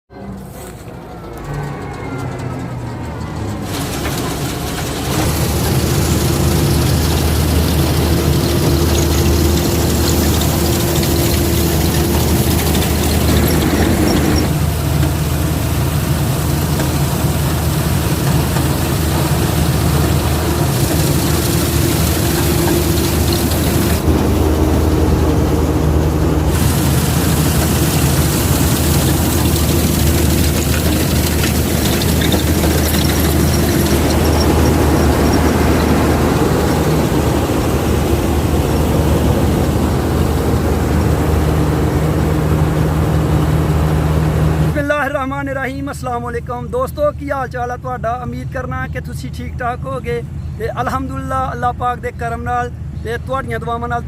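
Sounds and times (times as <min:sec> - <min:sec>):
diesel engine running steadily: 0:00.2 - 0:54.0.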